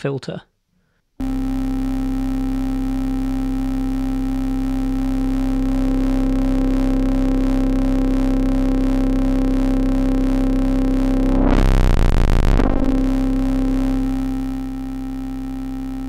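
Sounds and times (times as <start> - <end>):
buzzy synthesizer drone: 1.2 - 16.0
harsh noisy distortion: 1.2 - 16.0.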